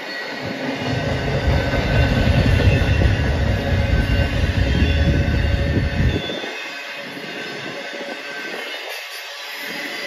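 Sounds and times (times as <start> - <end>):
freight train rumbling on rails: 0.0 - 10.0.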